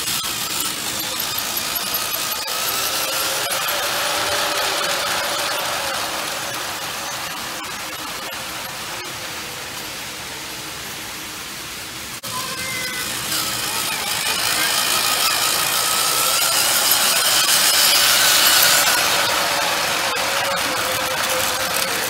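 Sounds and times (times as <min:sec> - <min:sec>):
toy train wheels rattling: 0:00.0 - 0:09.6, 0:12.2 - 0:22.0
toy train motor whirring: 0:00.0 - 0:10.0, 0:12.2 - 0:22.0.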